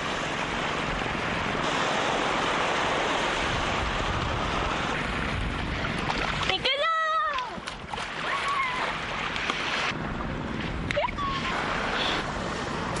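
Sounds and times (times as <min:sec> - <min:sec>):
sea surf washing onto beach: 0:00.0 - 0:13.0.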